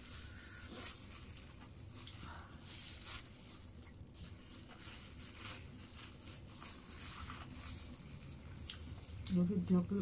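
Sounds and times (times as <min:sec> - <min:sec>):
plastic and paper crinkling: 0:00.0 - 0:10.0.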